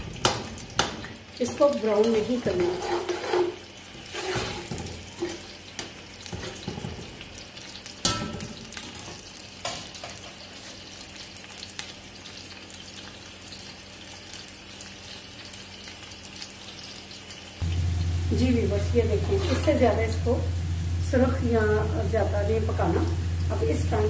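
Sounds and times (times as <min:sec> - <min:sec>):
onions sizzling in a pot: 0:00.0 - 0:24.0.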